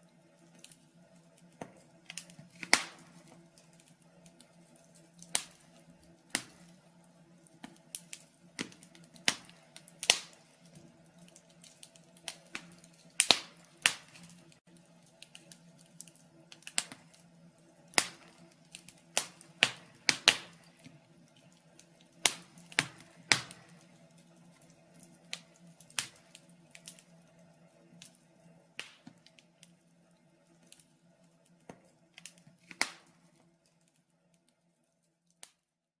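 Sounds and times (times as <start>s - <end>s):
faint steady hum: 0.0s - 35.7s
wood fire crackling and popping: 0.0s - 35.7s.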